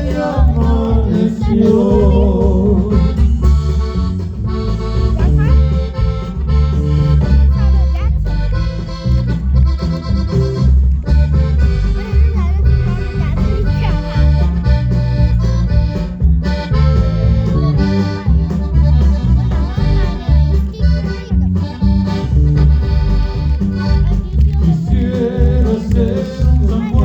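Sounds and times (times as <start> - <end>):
accordion-led music: 0.0 - 27.0
pulsing bass line: 0.0 - 27.0.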